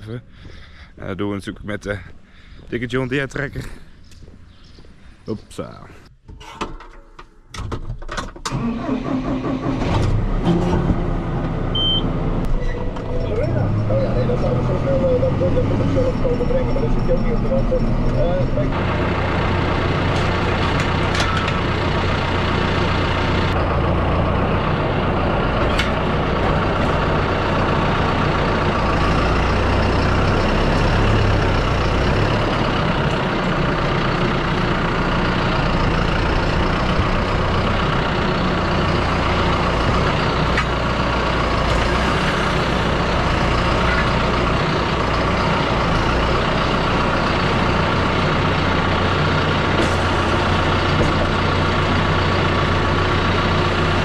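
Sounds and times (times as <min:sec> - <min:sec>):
tractor diesel engine running: 0:08.4 - 0:54.0.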